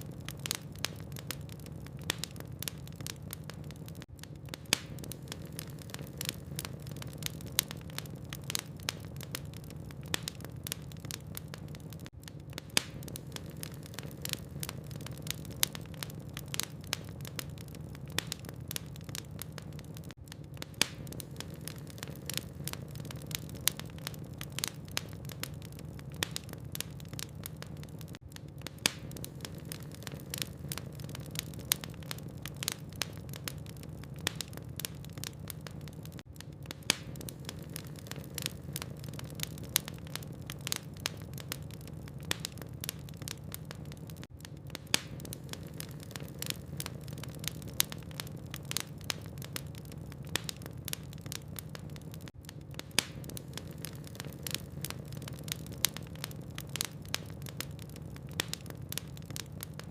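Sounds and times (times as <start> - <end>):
burning logs crackling: 0.0 - 59.9.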